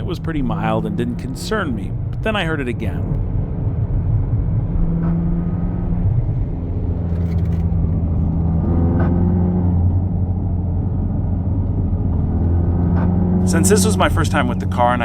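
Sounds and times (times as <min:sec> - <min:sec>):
car engine at road speed: 0:00.0 - 0:15.0.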